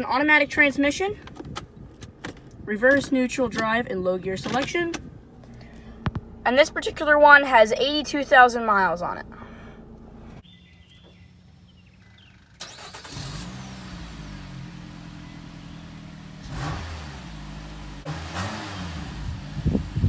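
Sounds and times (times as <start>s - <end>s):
car engine idling and revving: 0.0s - 10.4s, 11.8s - 20.0s.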